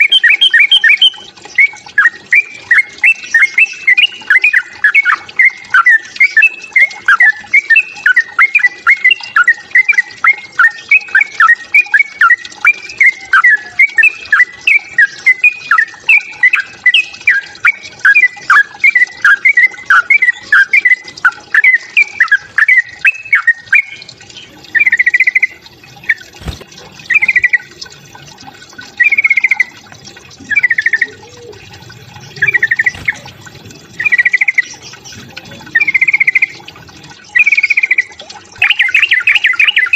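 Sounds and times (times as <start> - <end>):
bulbul chirping song: 0.0 - 39.9
rapid trilled bird phrases: 0.0 - 39.9.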